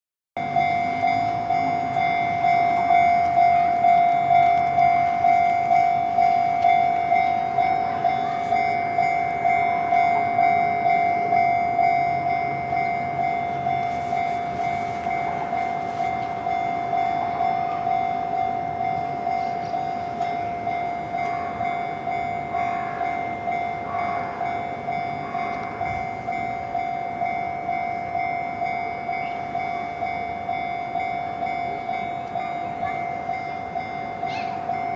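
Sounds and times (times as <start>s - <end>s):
level-crossing warning bell ringing: 0.4s - 34.9s.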